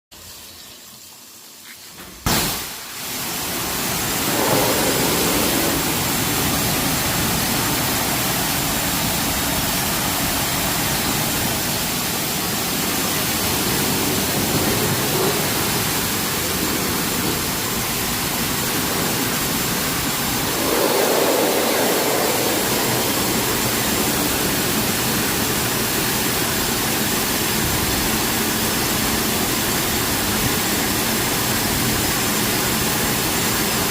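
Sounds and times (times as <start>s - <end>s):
pressure washer spraying water: 0.2s - 33.9s.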